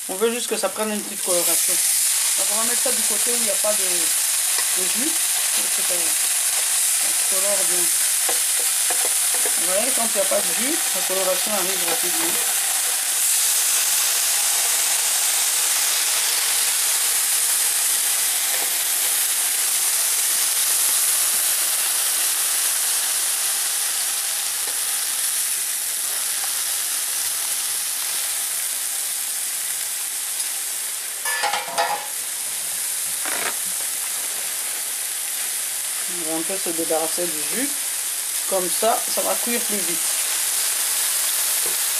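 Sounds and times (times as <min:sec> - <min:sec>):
fish sizzling on grill: 0:00.0 - 0:41.9.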